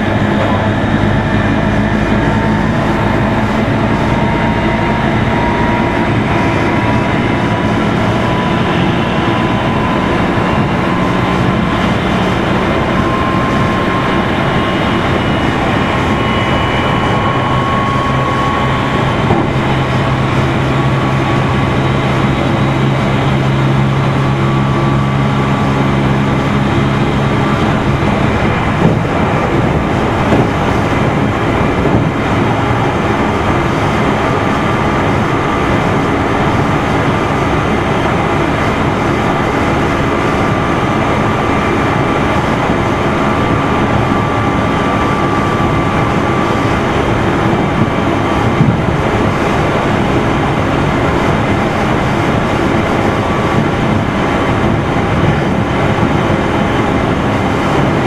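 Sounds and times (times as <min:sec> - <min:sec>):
low hum: 0:00.0 - 0:58.0
train wheels and motors rumbling: 0:00.0 - 0:58.0.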